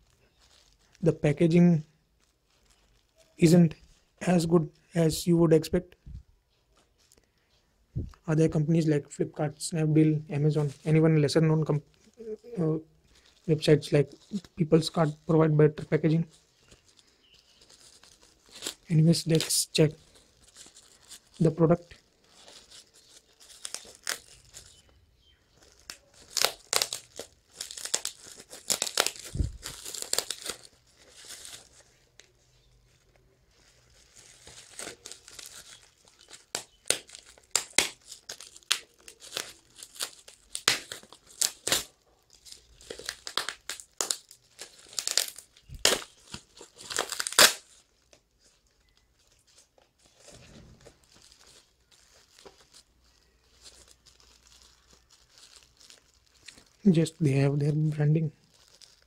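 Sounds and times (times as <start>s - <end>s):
packaging torn and crinkled: 0.0s - 1.0s, 1.9s - 3.4s, 11.6s - 59.0s.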